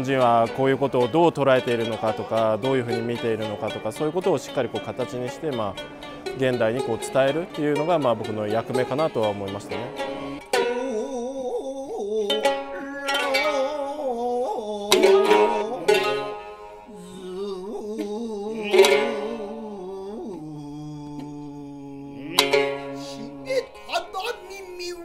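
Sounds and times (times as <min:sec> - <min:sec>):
person chanting with wavering voice: 0:00.0 - 0:25.0
shamisen plucks: 0:00.0 - 0:25.0.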